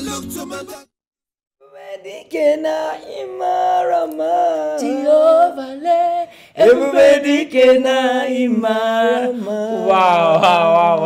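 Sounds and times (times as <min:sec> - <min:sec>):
gospel voices singing: 0:01.7 - 0:11.0.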